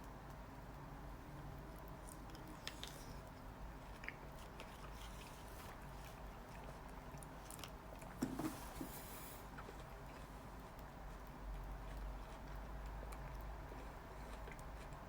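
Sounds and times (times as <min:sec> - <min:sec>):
person chewing shaved ice: 0:01.6 - 0:15.0.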